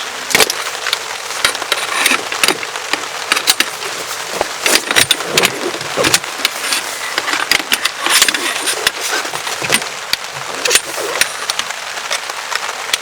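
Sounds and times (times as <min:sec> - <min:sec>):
rain hissing on tarp: 0:00.0 - 0:13.0
raindrops tapping on fabric: 0:00.0 - 0:13.0.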